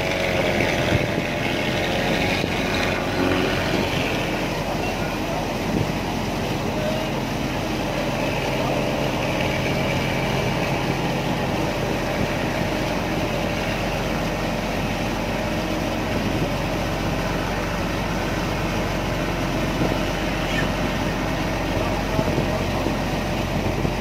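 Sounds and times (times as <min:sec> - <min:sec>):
ferry engine drone: 0:00.0 - 0:24.0.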